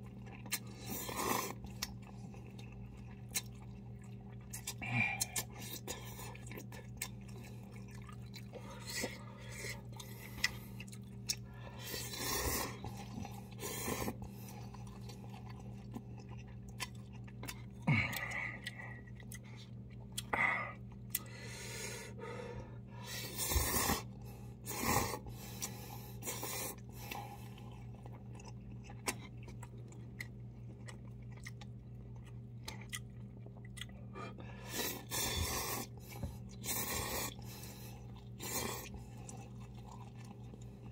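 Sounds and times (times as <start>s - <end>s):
man slurping and chewing noodles: 0.0s - 22.0s, 23.0s - 40.9s
steady low hum: 0.0s - 40.9s.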